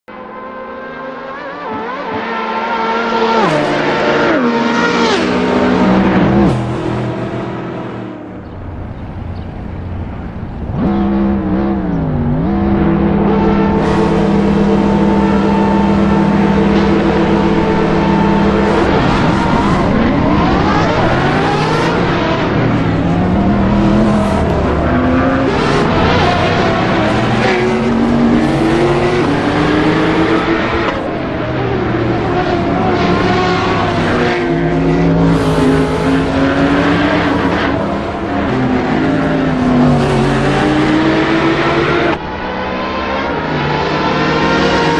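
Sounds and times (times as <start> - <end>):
car engine running hard: 0.1 - 44.9.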